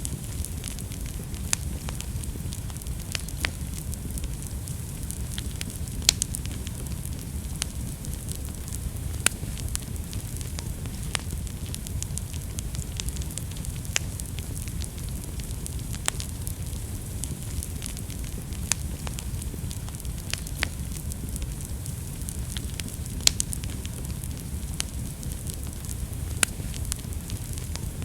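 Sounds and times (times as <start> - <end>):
fire burning in a fireplace: 0.0 - 28.0
fire crackling and popping: 0.0 - 28.0.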